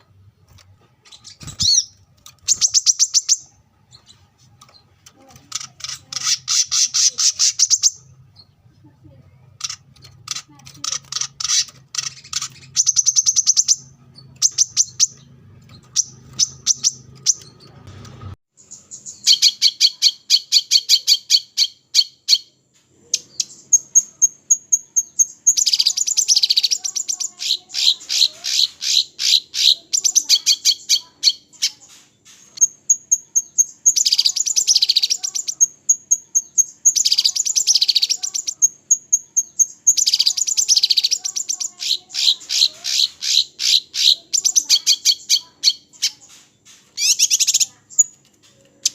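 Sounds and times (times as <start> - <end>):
songbirds trilling: 0.0 - 8.8, 9.5 - 17.8, 18.6 - 48.9.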